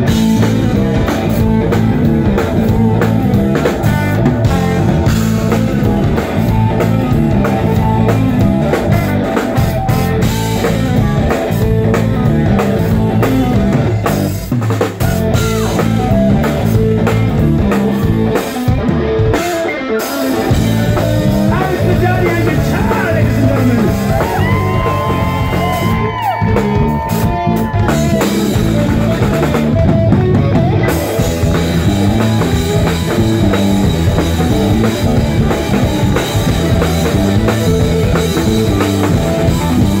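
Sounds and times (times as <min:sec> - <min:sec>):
drum kit: 0:00.0 - 0:40.0
electric guitars: 0:00.0 - 0:40.0
keyboards: 0:00.0 - 0:40.0.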